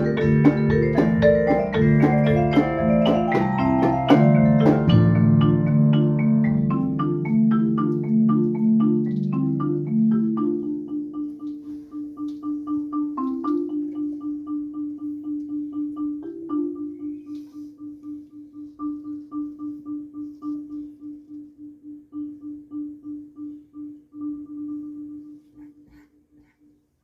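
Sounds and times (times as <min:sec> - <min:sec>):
repeated marimba note: 0:00.0 - 0:25.5
marimbas playing: 0:00.0 - 0:26.1.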